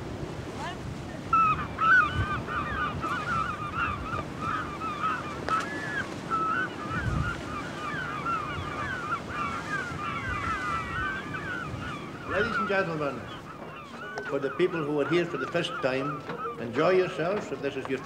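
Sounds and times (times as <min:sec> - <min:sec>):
flock of birds calling: 0:00.5 - 0:18.0.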